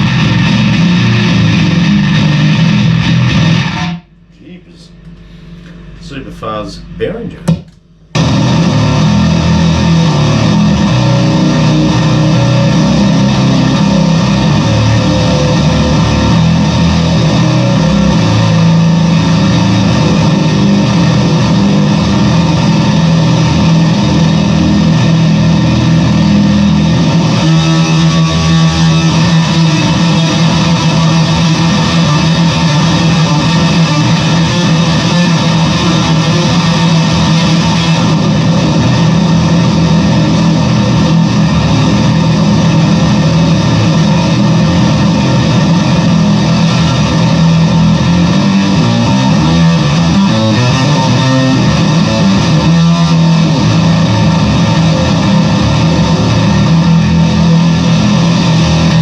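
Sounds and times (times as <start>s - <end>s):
distorted bass guitar: 0.0s - 59.0s.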